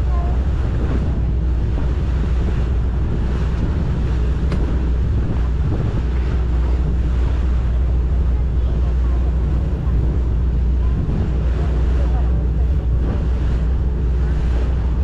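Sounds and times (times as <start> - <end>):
boat engine drone: 0.0 - 15.0
wind buffeting microphone: 0.0 - 15.0.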